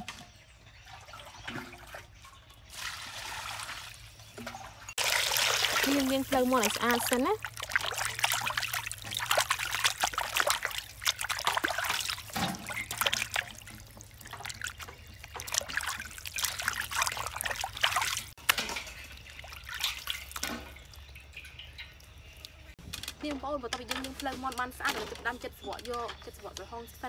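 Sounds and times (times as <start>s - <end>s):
water splashing in a metal basin: 0.0s - 22.8s
water dribbling: 0.6s - 22.8s.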